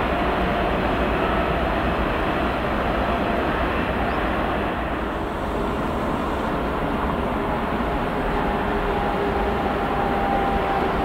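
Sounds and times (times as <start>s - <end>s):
high-speed train on track: 0.0s - 11.0s.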